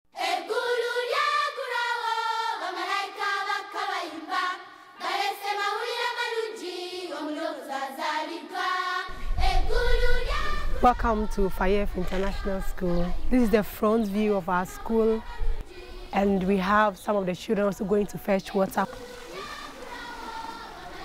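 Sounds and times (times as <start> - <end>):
children singing: 0.2 - 16.6, 18.6 - 21.0.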